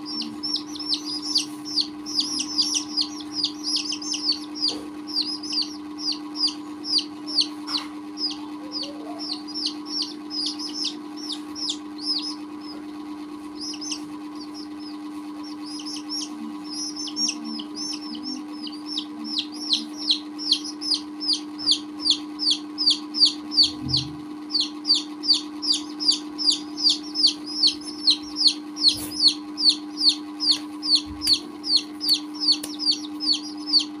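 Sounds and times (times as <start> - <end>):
baby chicks peeping: 0.0 - 34.0.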